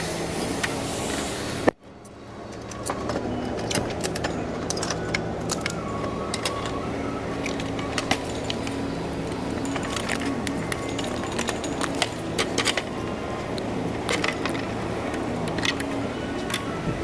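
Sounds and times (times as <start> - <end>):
steady background tones: 0.2 - 17.0.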